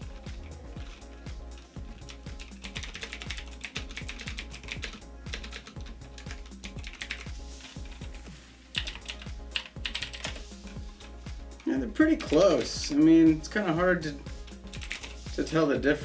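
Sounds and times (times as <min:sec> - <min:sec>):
background music with steady beat: 0:00.0 - 0:16.0
mechanical keyboard typing: 0:00.1 - 0:08.2, 0:08.8 - 0:12.8, 0:14.4 - 0:15.2.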